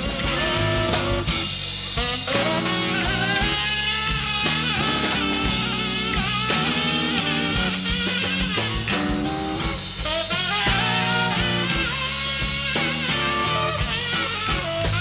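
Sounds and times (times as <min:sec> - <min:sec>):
blues band playing: 0:00.0 - 0:15.0
saxophone solo: 0:00.0 - 0:15.0.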